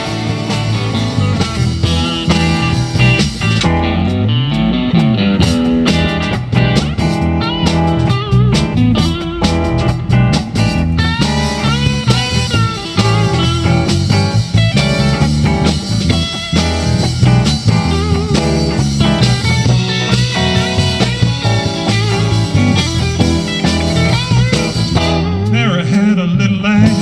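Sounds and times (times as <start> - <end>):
electric guitar bent notes: 0.0 - 27.0
live blues band: 0.0 - 27.0.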